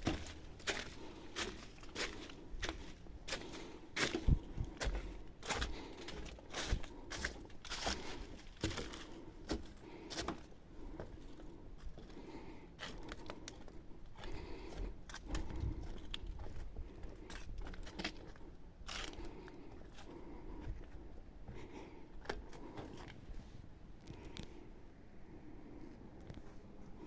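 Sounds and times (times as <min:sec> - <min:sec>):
rustling and crinkling: 0:00.0 - 0:24.6.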